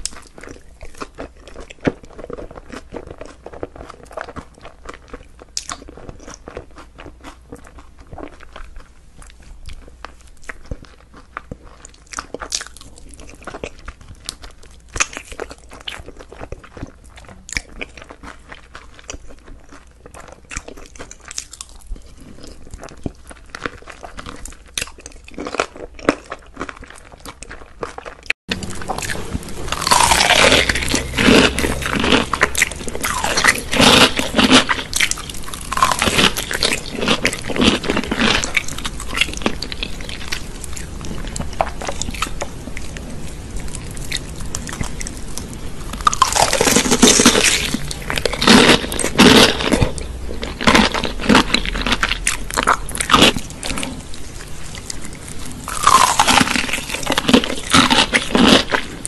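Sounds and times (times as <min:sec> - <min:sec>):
crunchy fried chicken chewing: 0:00.0 - 0:59.0.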